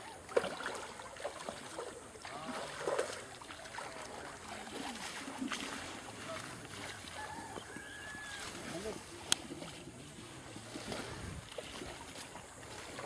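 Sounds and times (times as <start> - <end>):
light splashes: 0.0 - 13.0
pond water sloshing: 0.0 - 13.0.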